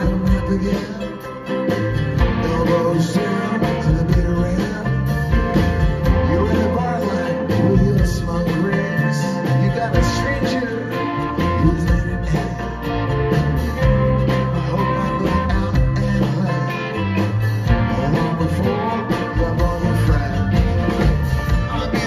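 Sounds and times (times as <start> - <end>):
man singing: 0.0 - 13.2, 14.1 - 22.0
drums: 0.0 - 22.0
guitars: 0.0 - 22.0.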